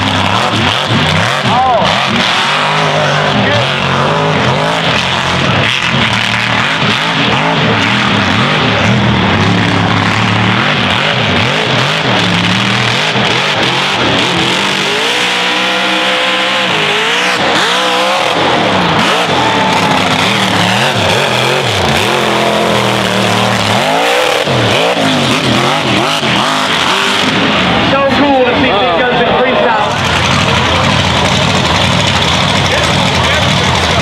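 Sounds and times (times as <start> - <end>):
tires spinning through dirt: 0.0 - 34.0
truck engine revving: 0.0 - 34.0.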